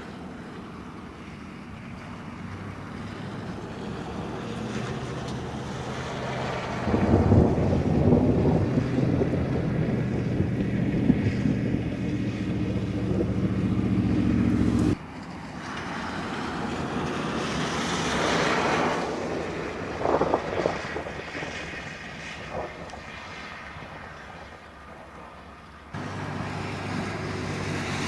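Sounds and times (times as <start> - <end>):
road or wind noise: 0.0 - 28.0
vehicle engine hum: 0.0 - 28.0.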